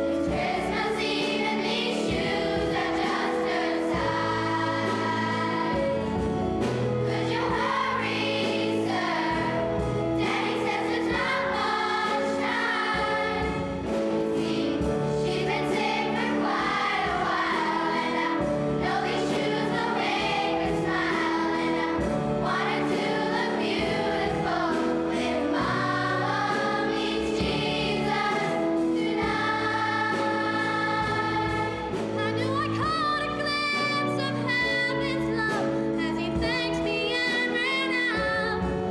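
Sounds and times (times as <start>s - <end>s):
held accompaniment notes: 0.0s - 38.9s
choir singing: 0.2s - 6.3s, 7.0s - 32.4s.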